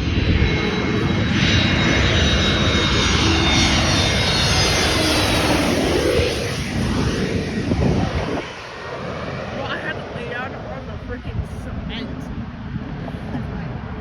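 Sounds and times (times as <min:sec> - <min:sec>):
jet airliner passing overhead: 0:00.0 - 0:14.0.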